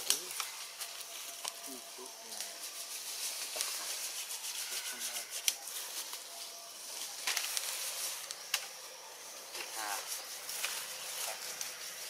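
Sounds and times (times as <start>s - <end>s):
leaves rustling: 0.0s - 12.0s
steady high hiss: 0.0s - 12.0s.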